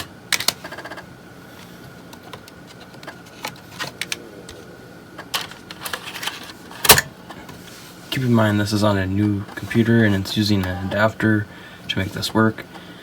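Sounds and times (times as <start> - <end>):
floppy drive whine: 0.0 - 13.0.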